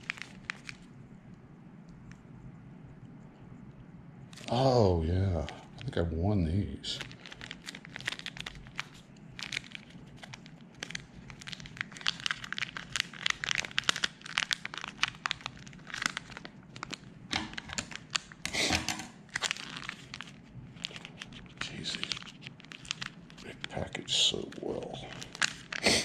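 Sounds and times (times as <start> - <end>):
packaging crinkling and tearing: 0.0 - 0.9, 5.3 - 26.0.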